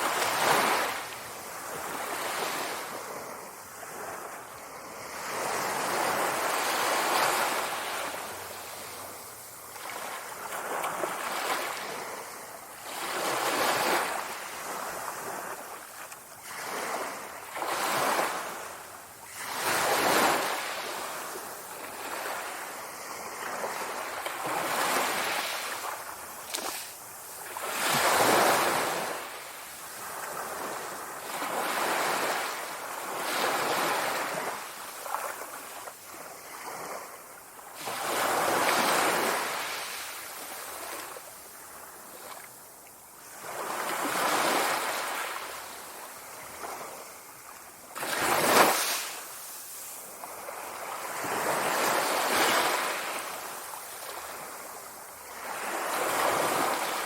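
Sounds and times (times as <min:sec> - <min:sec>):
sea waves surging: 0:00.0 - 0:37.1, 0:48.0 - 0:57.0.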